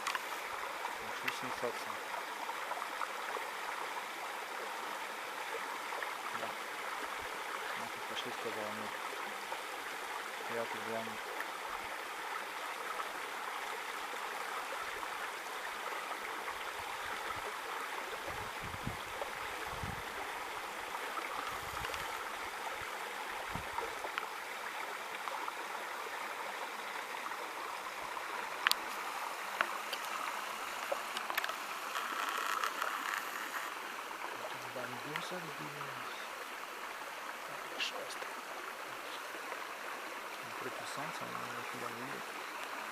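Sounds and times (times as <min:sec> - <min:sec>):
stream running over its bed: 0:00.0 - 0:42.9.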